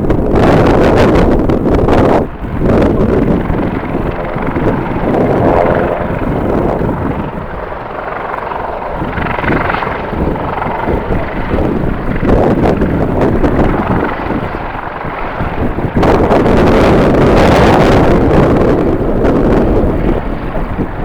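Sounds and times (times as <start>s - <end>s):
jet engine noise: 0.0s - 21.0s
wind buffeting microphone: 0.0s - 21.0s.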